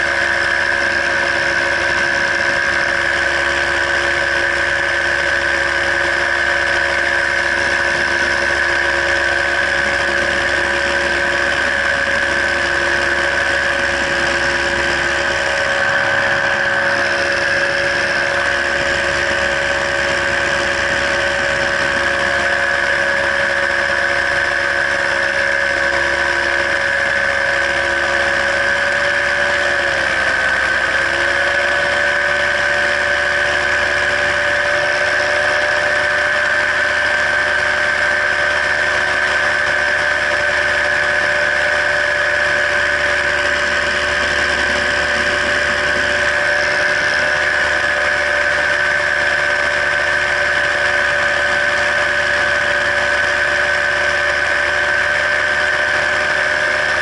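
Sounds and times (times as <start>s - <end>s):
paramotor engine droning: 0.0s - 57.0s.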